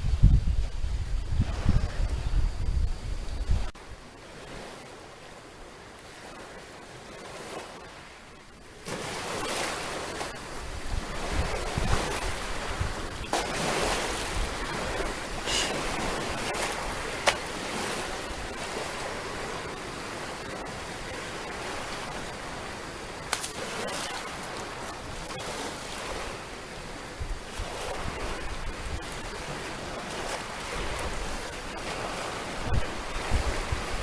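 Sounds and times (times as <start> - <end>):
sea waves breaking: 0.0 - 34.0.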